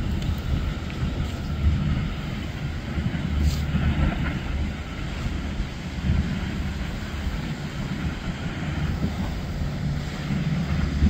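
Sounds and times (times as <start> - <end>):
boat engine drone: 0.0 - 11.0
water rushing from wake: 0.0 - 11.0.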